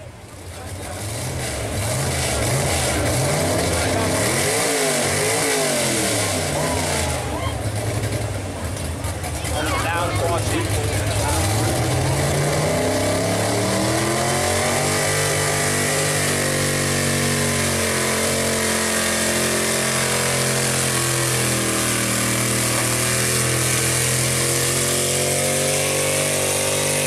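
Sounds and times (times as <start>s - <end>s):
truck engine at high revs: 0.0s - 27.0s.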